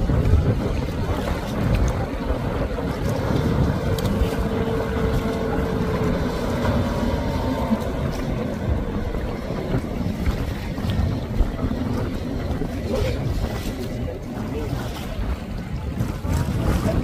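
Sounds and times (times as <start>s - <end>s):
outboard motor running at speed: 0.0s - 17.0s
wind rumbling on microphone: 0.0s - 17.0s.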